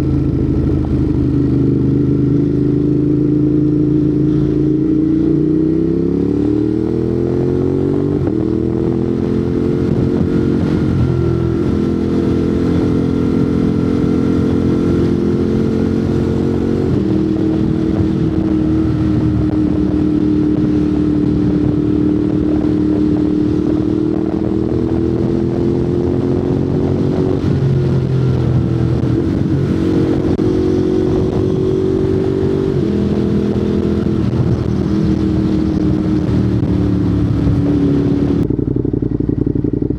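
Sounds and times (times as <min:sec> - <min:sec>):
motorcycle engine with gear changes: 0:00.0 - 0:39.9.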